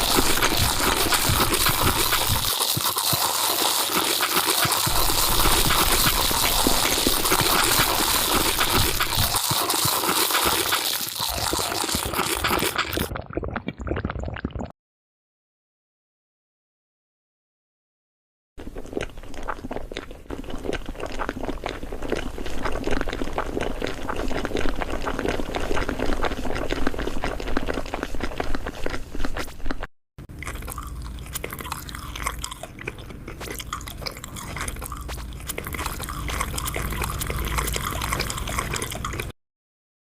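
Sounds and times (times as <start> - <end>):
crunchy food being chewed: 0.0 - 14.7, 18.6 - 39.4.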